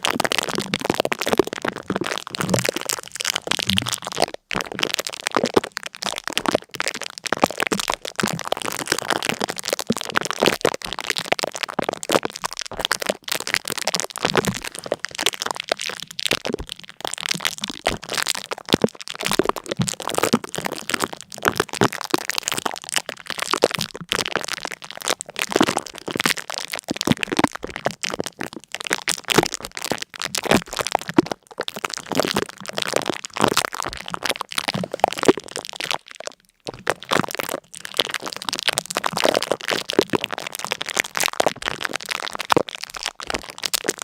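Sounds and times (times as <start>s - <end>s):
dense crackling and pops: 0.0s - 44.0s.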